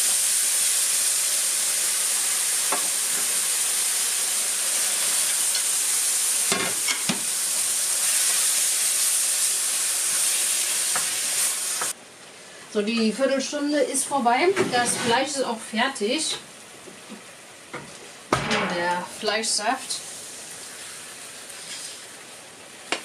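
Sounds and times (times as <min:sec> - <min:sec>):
frying hiss in a pan: 0:00.0 - 0:23.0.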